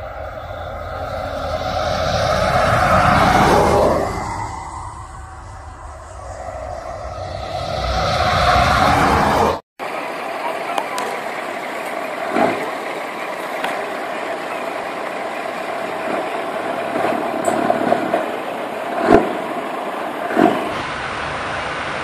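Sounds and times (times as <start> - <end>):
truck engine driving: 0.0 - 21.9.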